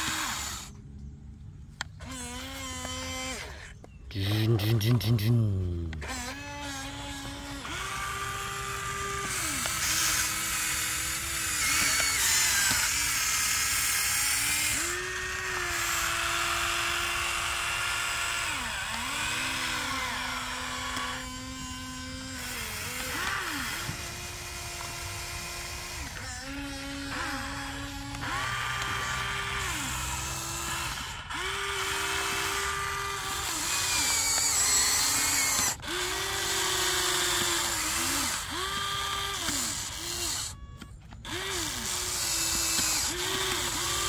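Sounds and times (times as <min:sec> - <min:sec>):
toy excavator motors whining: 0:00.0 - 0:44.0.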